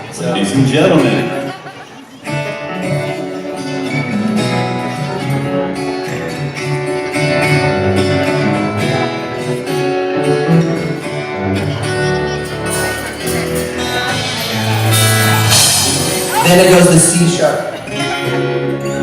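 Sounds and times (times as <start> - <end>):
guitar strumming chords: 0.0 - 19.0.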